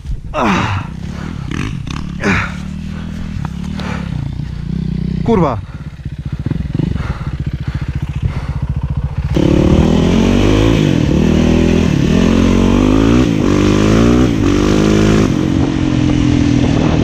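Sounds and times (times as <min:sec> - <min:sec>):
motorcycle engine revving: 0:00.4 - 0:17.0.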